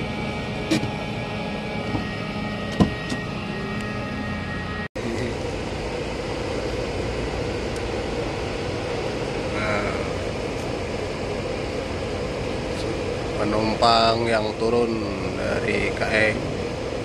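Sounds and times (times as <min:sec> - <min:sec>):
ferry machinery drone: 0:00.0 - 0:17.0.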